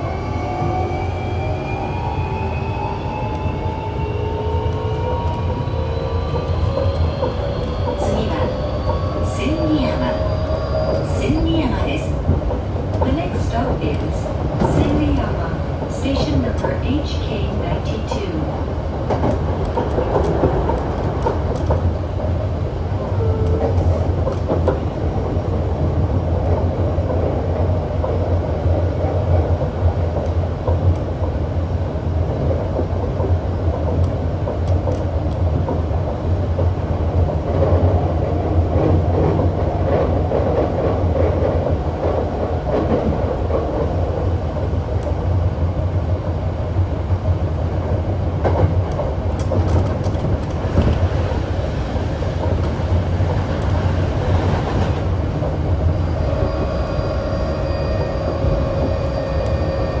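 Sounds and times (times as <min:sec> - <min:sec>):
train wheels rumbling on rail: 0:00.0 - 1:00.0.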